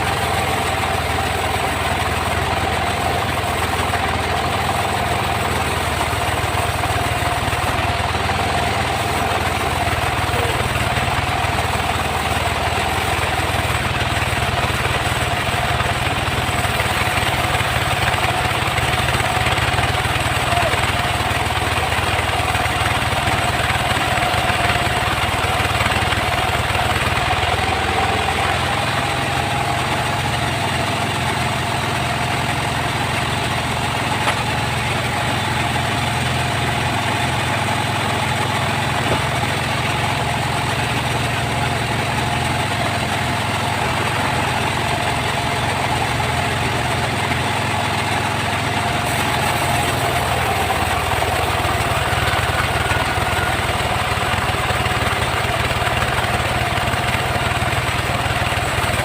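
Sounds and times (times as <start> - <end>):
engine drone: 0.0 - 59.0
saw blade whine: 0.0 - 59.0.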